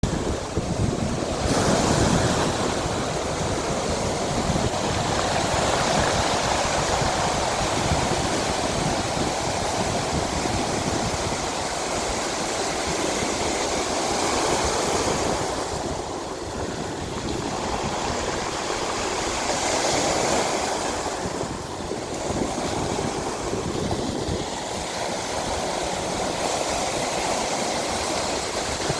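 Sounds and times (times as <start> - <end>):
ocean waves breaking: 0.0 - 28.9.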